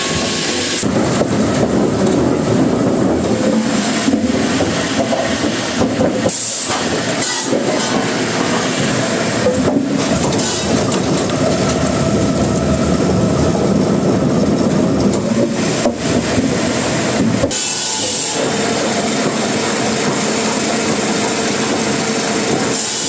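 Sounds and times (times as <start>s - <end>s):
wood-processing machinery clattering: 0.0s - 23.0s.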